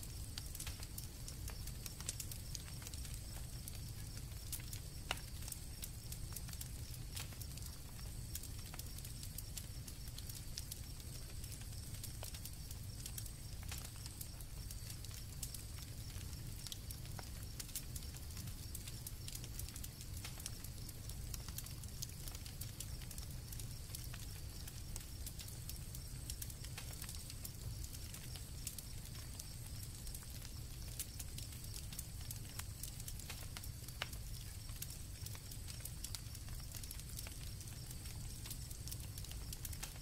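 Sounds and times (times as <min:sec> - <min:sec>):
campfire crackling and popping: 0:00.0 - 0:40.0
crickets chirping: 0:00.0 - 0:40.0.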